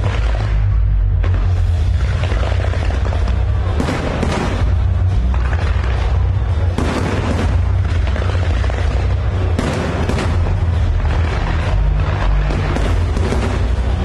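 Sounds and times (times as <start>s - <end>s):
fireworks booming: 0.0s - 14.0s
sharp fireworks cracks: 0.0s - 14.0s.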